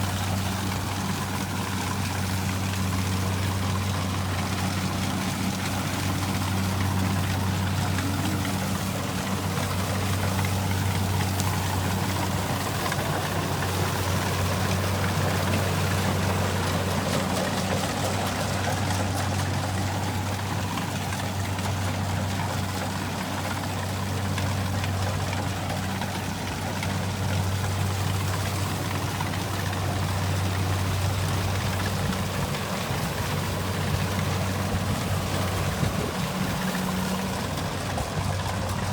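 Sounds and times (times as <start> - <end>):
diesel engine hum: 0.0 - 38.9.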